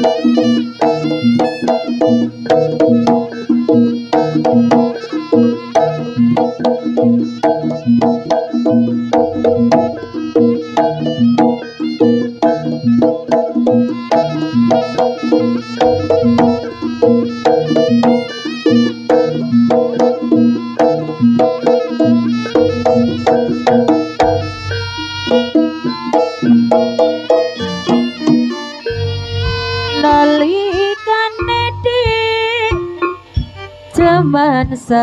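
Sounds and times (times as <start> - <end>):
drums and gamelan percussion: 0.0 - 35.0.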